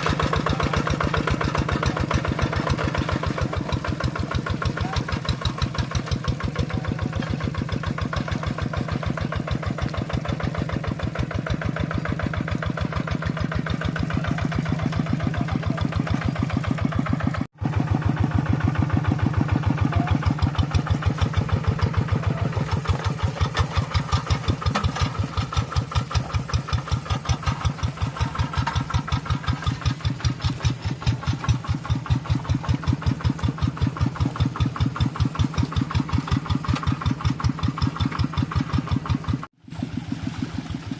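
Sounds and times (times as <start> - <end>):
tractor engine chugging: 0.0 - 40.9.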